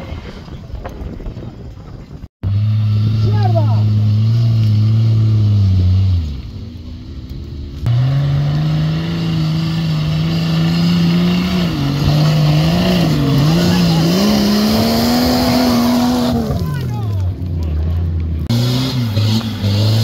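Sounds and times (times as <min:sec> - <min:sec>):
off-road engine revving: 0:02.4 - 0:20.0.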